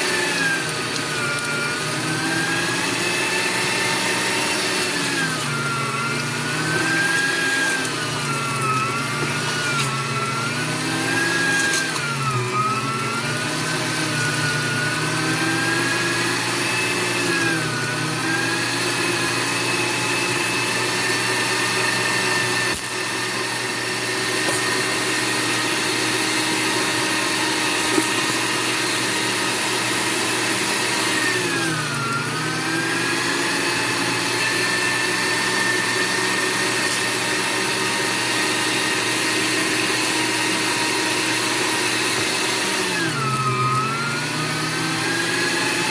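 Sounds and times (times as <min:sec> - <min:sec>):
electric meat grinder running: 0:00.0 - 0:45.9.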